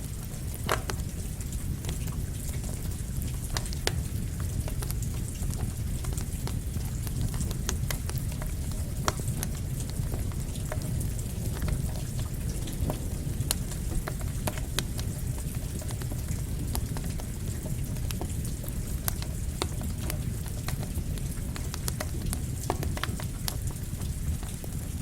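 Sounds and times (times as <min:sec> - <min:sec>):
campfire crackling and popping: 0:00.0 - 0:25.0
steady rain: 0:00.0 - 0:25.0.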